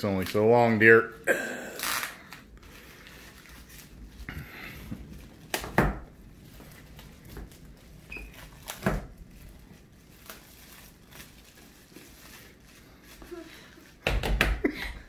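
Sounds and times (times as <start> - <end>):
plastic wrapping crinkling and tearing: 0.0 - 14.4.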